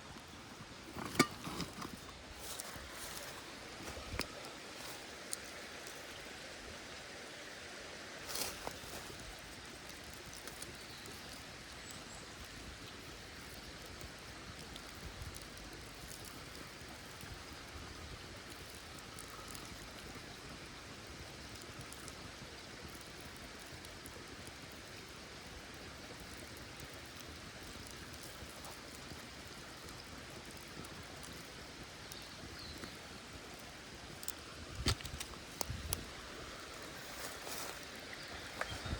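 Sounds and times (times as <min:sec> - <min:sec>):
small stream running: 0:00.0 - 0:38.9.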